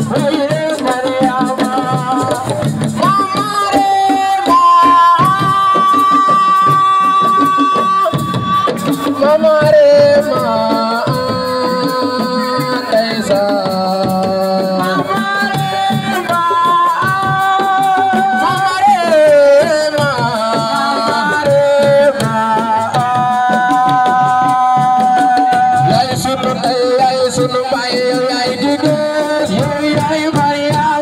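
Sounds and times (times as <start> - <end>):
fast hand-drum rhythm: 0.0 - 31.0.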